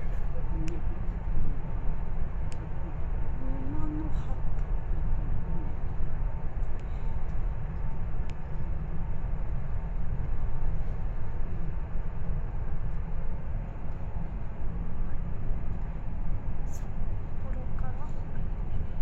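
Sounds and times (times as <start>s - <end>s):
train rumbling from inside carriage: 0.0s - 19.0s.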